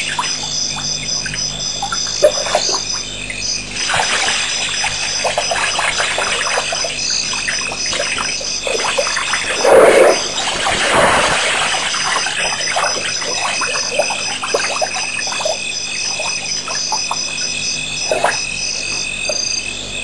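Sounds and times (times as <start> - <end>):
water gushing: 0.0 - 3.0, 3.7 - 18.8
water splashing and dribbling: 0.0 - 19.6.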